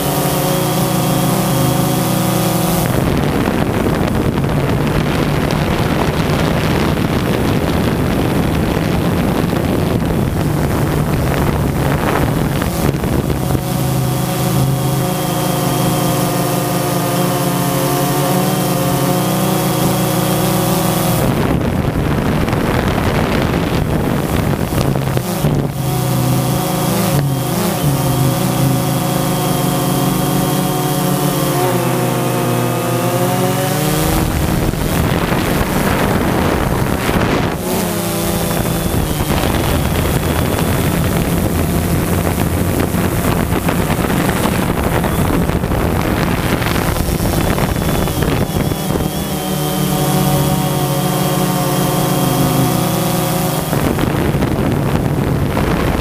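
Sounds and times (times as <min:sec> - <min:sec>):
drone motors whining: 0:00.0 - 0:56.0
wind noise on microphone: 0:00.0 - 0:56.0.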